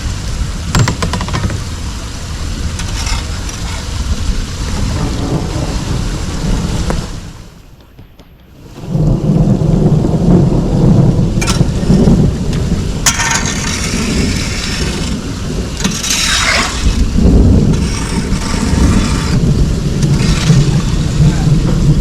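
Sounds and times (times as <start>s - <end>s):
rushing water and rain: 0.0s - 22.0s.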